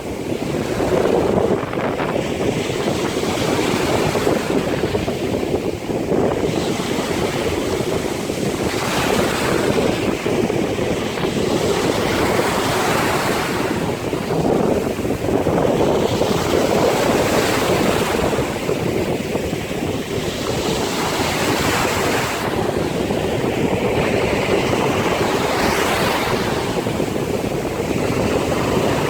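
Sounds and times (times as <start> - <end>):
waves and surf rushing: 0.0 - 29.0
wind blowing across microphone: 0.0 - 29.0.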